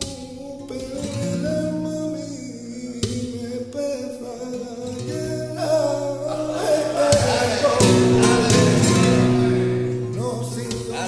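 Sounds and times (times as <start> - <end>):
flamenco guitar: 0.0 - 11.0
man singing flamenco: 0.0 - 11.0.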